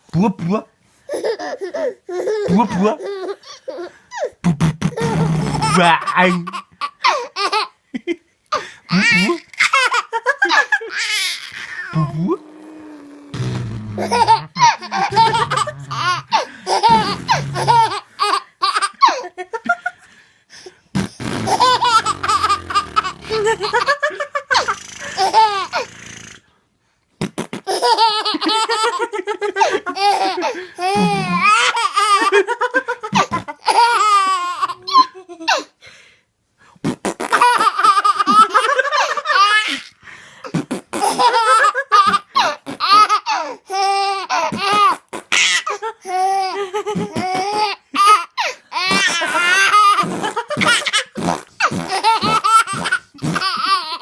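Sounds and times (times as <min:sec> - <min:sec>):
baby laughing: 0:01.1 - 0:07.8, 0:08.9 - 0:12.5, 0:14.0 - 0:19.9, 0:21.1 - 0:25.9, 0:27.5 - 0:35.6, 0:37.2 - 0:40.0, 0:40.9 - 0:54.0.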